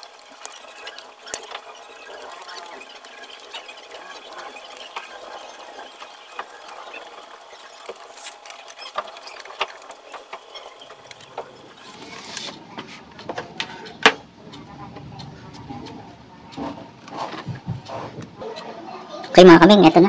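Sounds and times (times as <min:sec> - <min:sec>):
wires rustling: 0:00.0 - 0:18.6.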